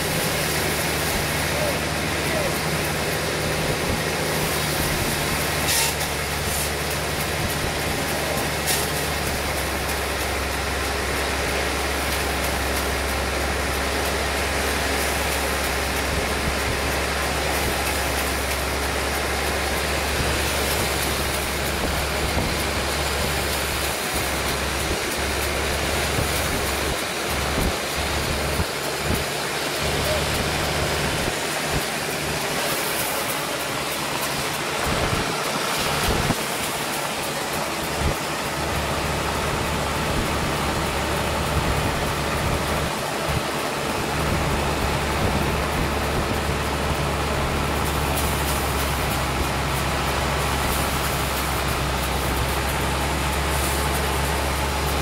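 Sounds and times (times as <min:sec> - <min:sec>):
even rushing noise: 0:00.0 - 0:55.0
low engine drone: 0:00.0 - 0:55.0.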